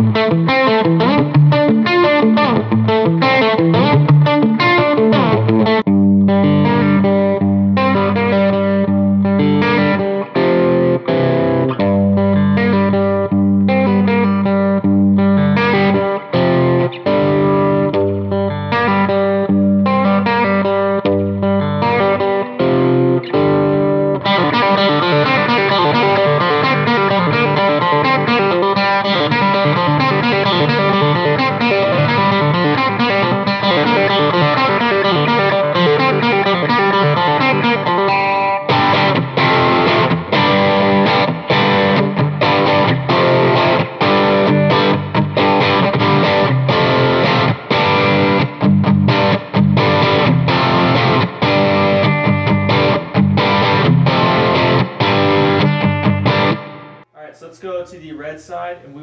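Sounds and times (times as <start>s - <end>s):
overdriven electric guitar riffs: 0.0s - 57.2s.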